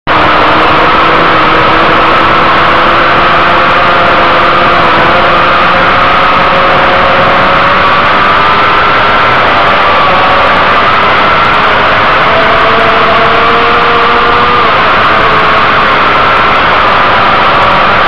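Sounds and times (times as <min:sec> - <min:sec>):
motorcycle engine revving: 0:00.1 - 0:18.0.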